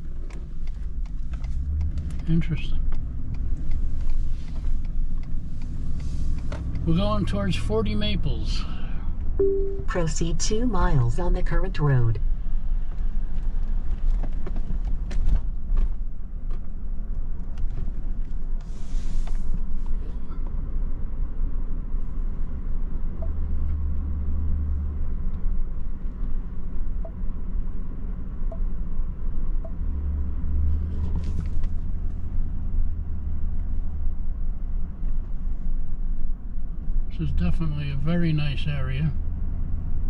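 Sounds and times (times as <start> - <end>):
car engine and tyres rumbling: 0.0 - 40.0.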